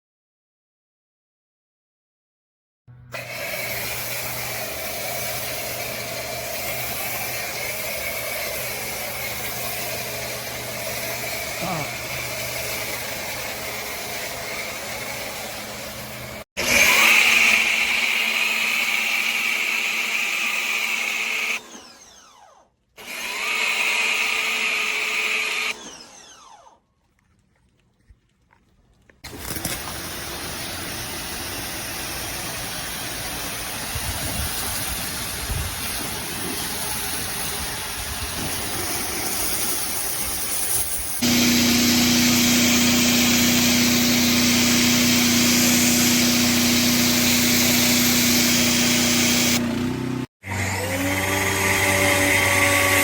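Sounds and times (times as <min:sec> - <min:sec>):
pressure washer running: 0:02.9 - 0:22.2, 0:23.0 - 0:26.6, 0:29.2 - 0:53.0.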